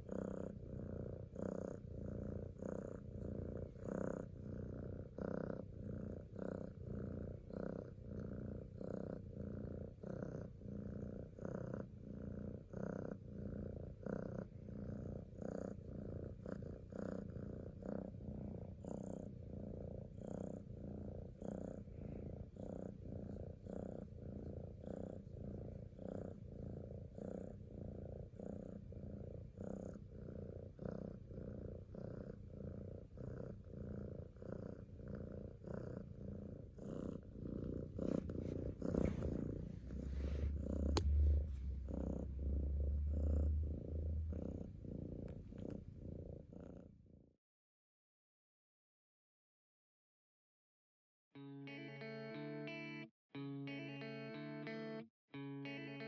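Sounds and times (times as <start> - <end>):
kitten purring: 0.0 - 47.4.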